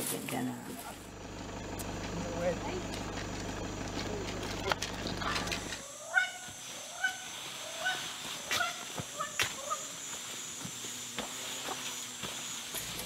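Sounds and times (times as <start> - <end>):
high insect hum: 0.0 - 13.0.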